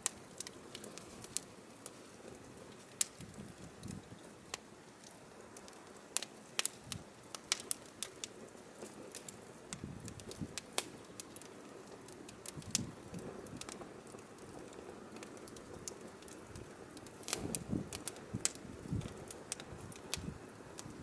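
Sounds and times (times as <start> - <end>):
firewood crackling and popping: 0.0 - 21.0
low uneven fire rumble: 0.0 - 21.0.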